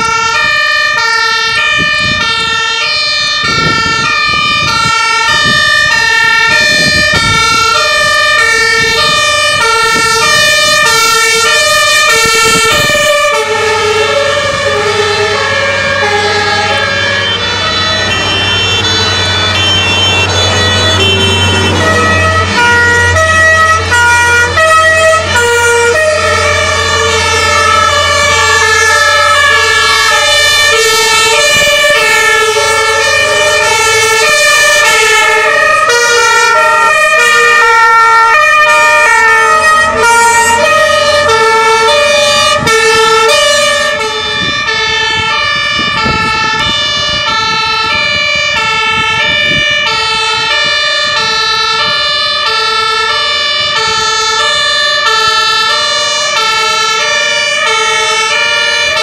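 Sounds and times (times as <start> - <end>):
low truck engine rumble: 0.0 - 59.0
two-tone fire engine sirens: 0.0 - 59.0.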